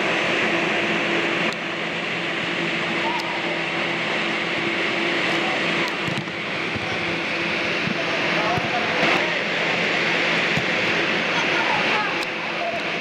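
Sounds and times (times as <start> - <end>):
low hum: 0.0 - 13.0
ventilation blowers droning: 0.0 - 13.0.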